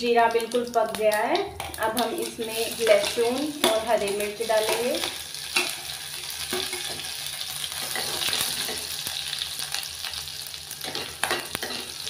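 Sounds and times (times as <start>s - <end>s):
garlic sizzling in oil: 0.1s - 12.0s.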